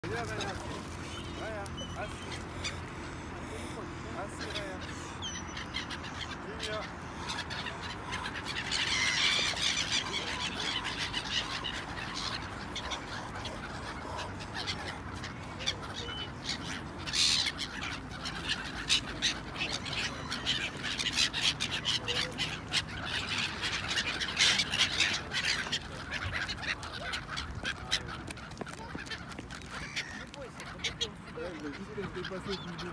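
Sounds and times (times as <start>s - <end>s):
gulls squawking: 0.0s - 32.9s.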